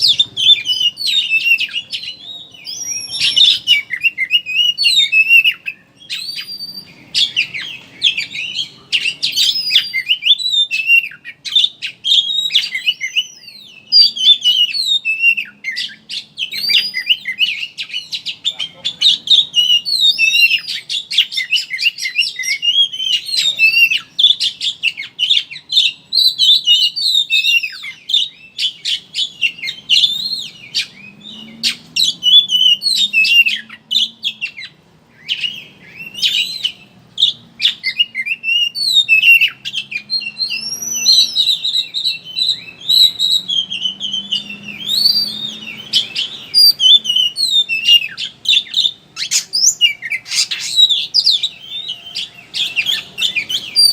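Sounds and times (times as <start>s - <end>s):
songbird chattering and trilling: 0.0s - 53.9s.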